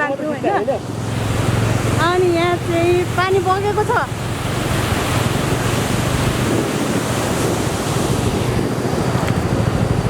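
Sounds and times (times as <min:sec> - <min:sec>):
scooter engine droning: 0:00.0 - 0:10.0
stream water rushing: 0:00.0 - 0:10.0
wind on microphone: 0:00.8 - 0:10.0.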